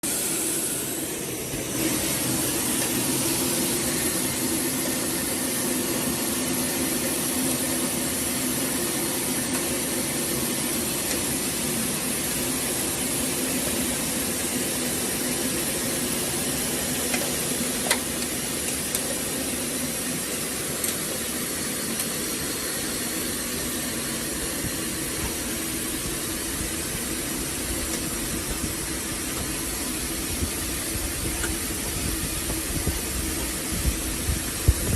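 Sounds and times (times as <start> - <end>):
bottling machine hum with hiss: 0.0 - 34.9.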